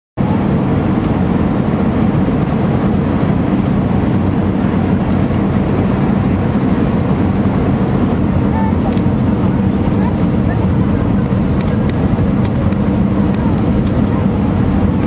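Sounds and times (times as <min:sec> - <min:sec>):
aircraft engines rumbling: 0:00.2 - 0:15.0.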